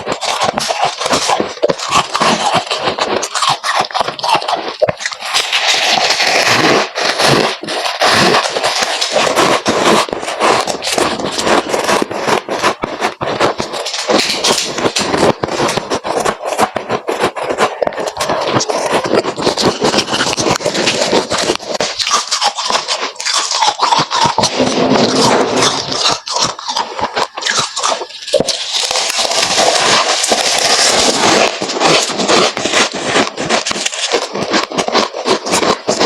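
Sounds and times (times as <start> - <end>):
frost crunching and scraping: 0.0 - 36.0.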